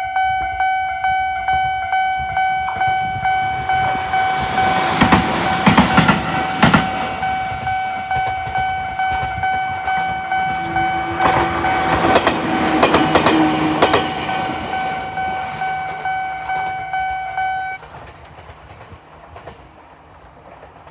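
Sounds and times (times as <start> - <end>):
train wheels clicking over rail joints: 1.6 - 20.9.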